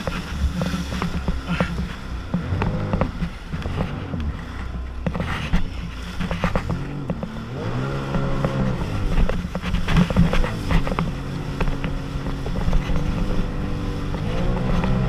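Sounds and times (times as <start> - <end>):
hull slapping rough water: 0.0 - 15.0
watercraft engine revving: 0.0 - 15.0.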